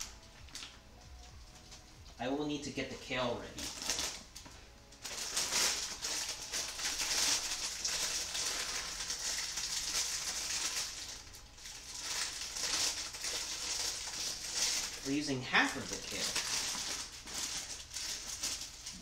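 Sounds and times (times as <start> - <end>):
kale crinkling and rustling: 3.3 - 19.0.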